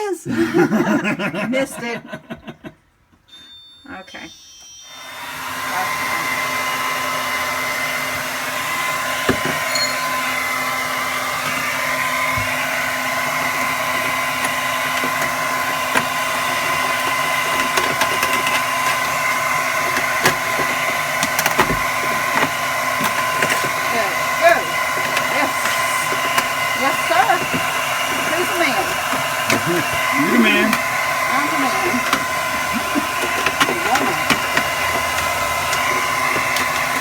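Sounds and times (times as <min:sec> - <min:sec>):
hair dryer running: 0:04.8 - 0:37.0.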